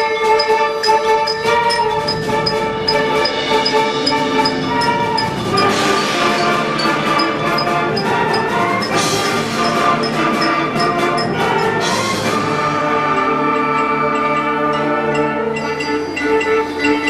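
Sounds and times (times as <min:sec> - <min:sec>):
ticking percussion beat: 0:00.0 - 0:17.0
brass and woodwind chords: 0:00.7 - 0:17.0.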